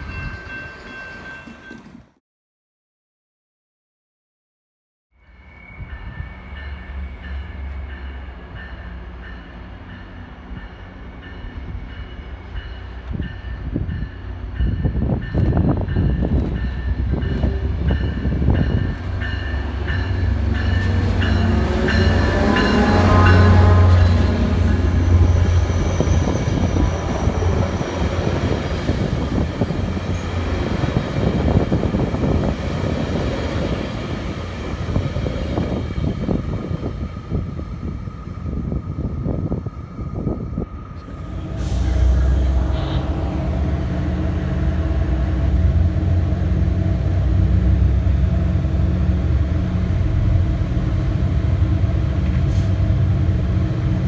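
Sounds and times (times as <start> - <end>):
train wheel and rail rumbling: 0.0 - 2.2, 5.2 - 54.0
diesel locomotive humming: 5.2 - 54.0.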